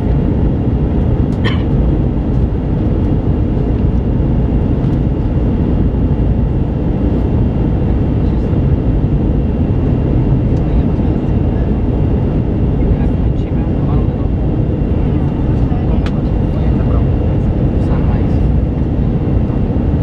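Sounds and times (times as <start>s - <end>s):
airplane cabin airflow and engine: 0.0s - 20.0s.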